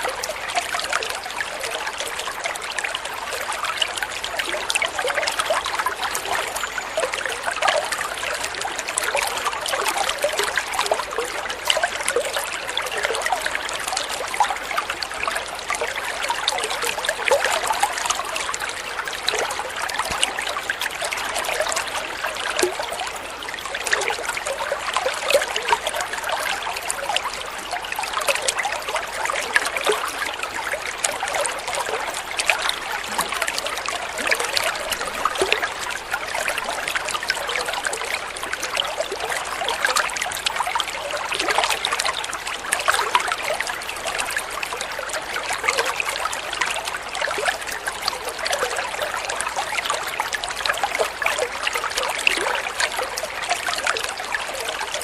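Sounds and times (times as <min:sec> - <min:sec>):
water trickling in small stream: 0:00.0 - 0:55.0.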